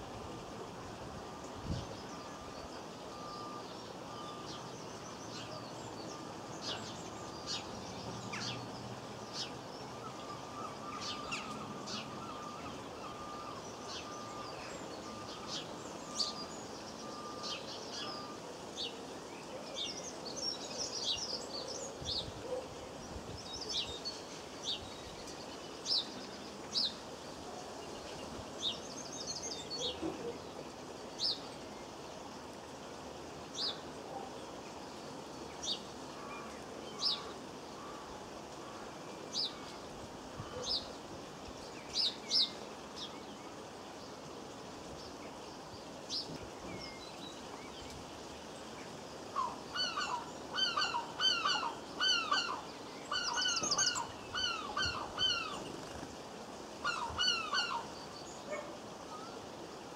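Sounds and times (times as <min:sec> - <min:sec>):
background hiss: 0:00.0 - 0:59.9
garden birds chirping: 0:00.0 - 0:59.9.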